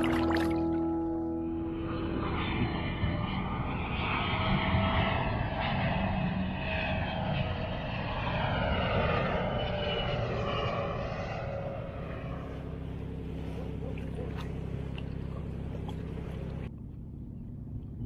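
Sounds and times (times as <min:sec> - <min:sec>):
jet airliner flying overhead: 0:00.0 - 0:18.0.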